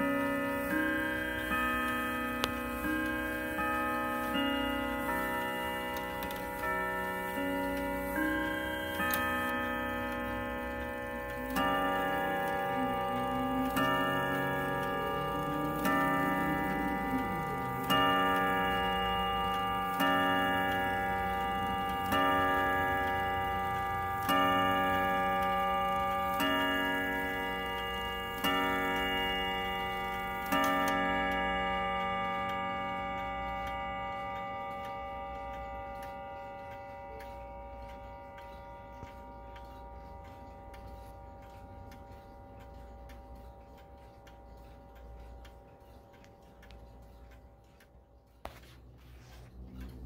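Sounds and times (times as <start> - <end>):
clock ticking: 0.0 - 50.0
wall clock chime strokes: 0.0 - 50.0.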